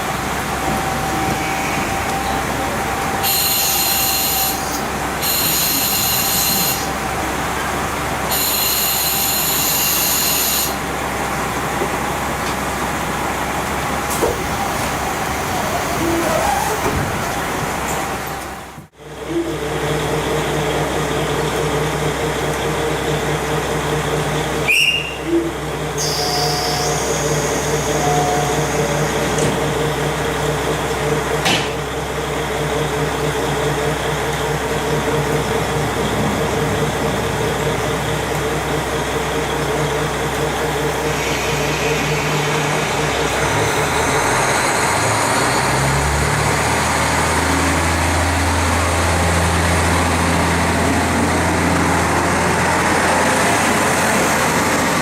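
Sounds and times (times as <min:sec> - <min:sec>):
diesel railcar engine drone: 0:00.0 - 0:55.0
train wheels on rails: 0:00.0 - 0:55.0.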